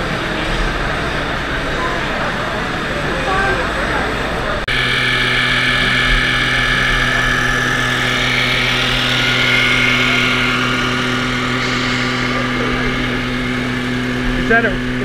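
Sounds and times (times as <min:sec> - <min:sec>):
simulated truck engine hum: 0:00.0 - 0:15.0.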